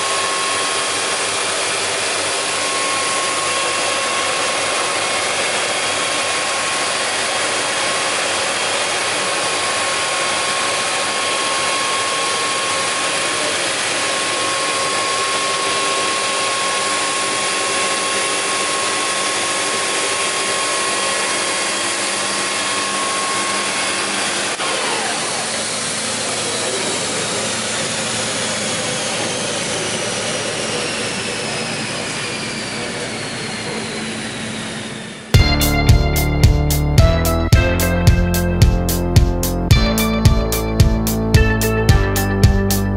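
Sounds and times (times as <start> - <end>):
planer machine whine: 0.0 - 42.9.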